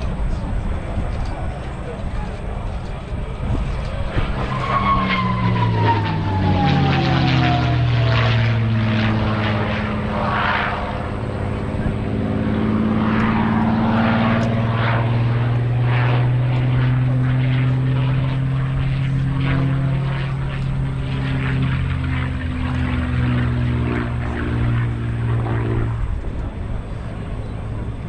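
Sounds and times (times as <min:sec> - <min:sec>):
propeller plane engine drone: 0:00.0 - 0:28.0.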